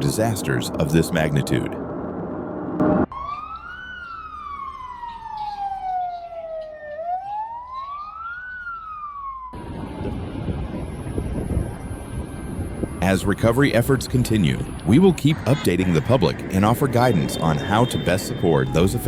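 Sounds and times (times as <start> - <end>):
emergency siren wailing: 2.8 - 19.0.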